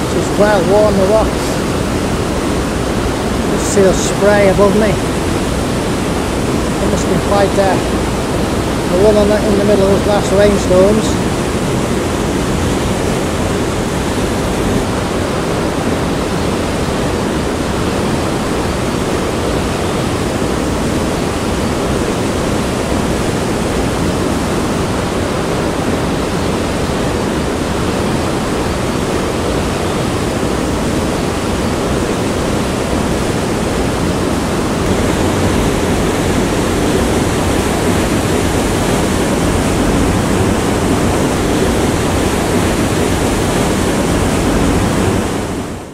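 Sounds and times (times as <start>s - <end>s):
waterfall crashing into pool: 0.0s - 45.9s.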